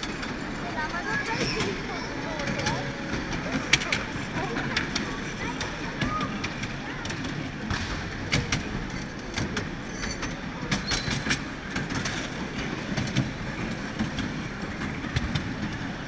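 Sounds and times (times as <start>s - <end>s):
miniature train rumbling: 0.0s - 16.0s
wheels clicking over rail joints: 0.0s - 16.0s.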